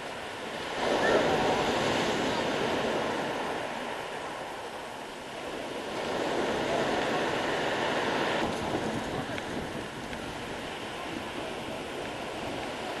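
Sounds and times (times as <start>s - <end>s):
surf breaking on shingle beach: 0.0s - 13.0s.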